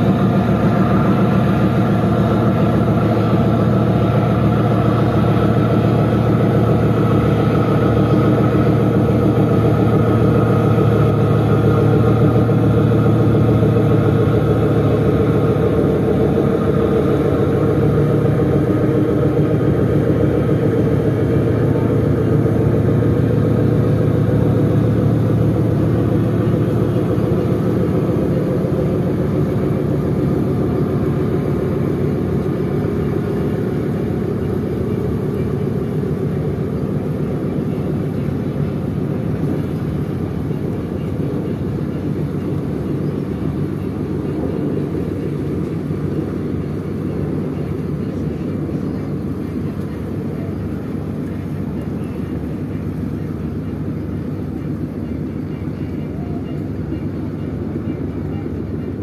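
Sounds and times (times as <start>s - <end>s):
ship diesel engines droning: 0.0s - 59.0s.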